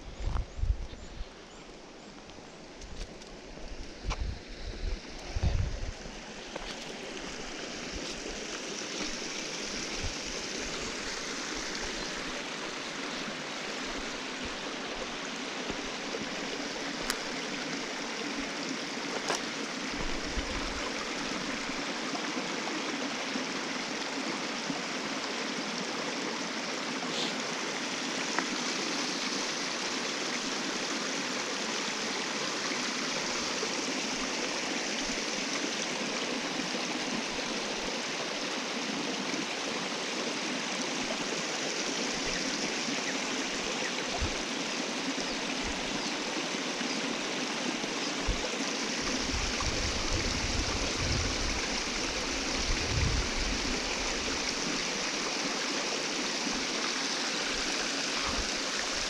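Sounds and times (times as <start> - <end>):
creek water rushing over rocks: 1.4 - 59.0.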